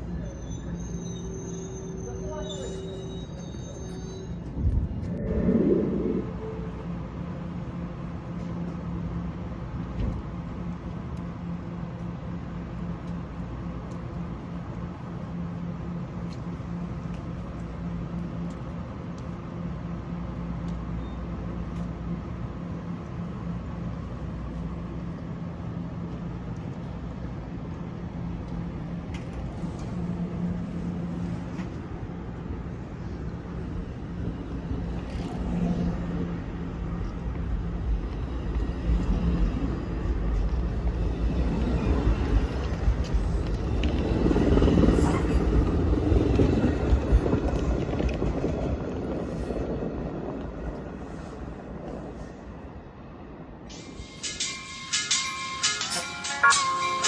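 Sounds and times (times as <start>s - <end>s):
vehicle rumble: 0.0s - 55.8s.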